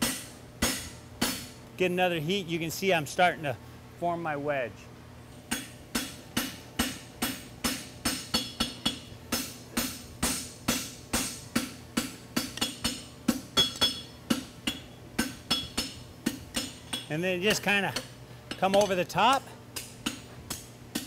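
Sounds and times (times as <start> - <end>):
hammer striking metal on anvil: 0.0 - 1.6, 5.5 - 21.0.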